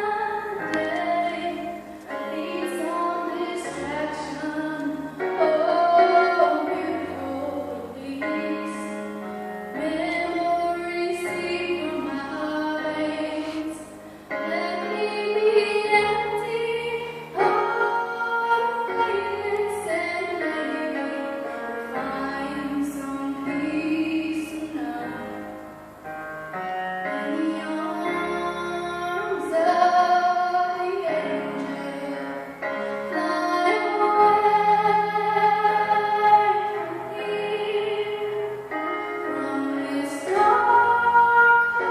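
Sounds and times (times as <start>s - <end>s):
woman singing slow song: 0.0s - 9.1s, 9.7s - 25.6s, 27.1s - 41.9s.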